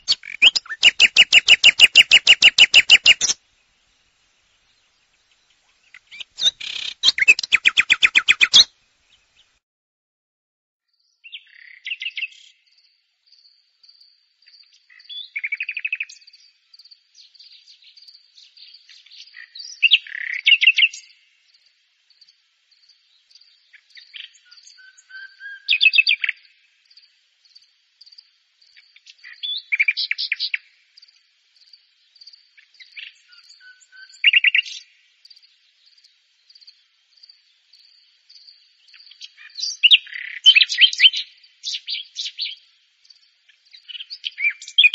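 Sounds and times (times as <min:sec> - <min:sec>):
nightingale singing: 0:00.0 - 0:03.7, 0:04.4 - 0:09.6, 0:10.9 - 0:44.9.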